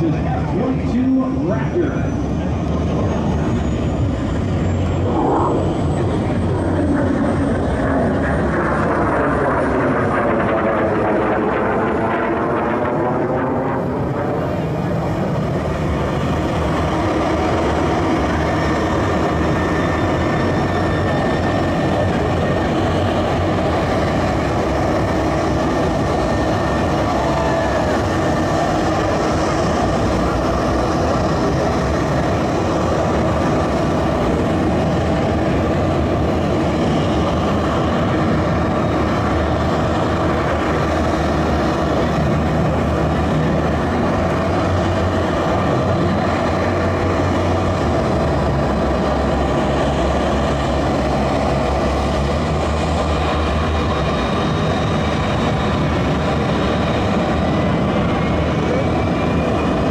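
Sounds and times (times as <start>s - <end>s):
jet engine idling: 0.0s - 59.9s.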